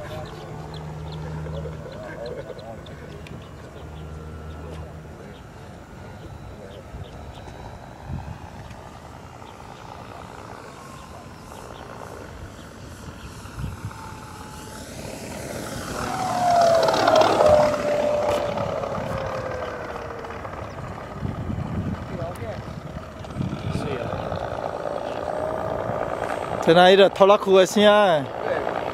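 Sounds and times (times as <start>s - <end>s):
model aircraft engine hum: 0.0s - 28.9s
whine dropping in pitch: 0.0s - 28.9s.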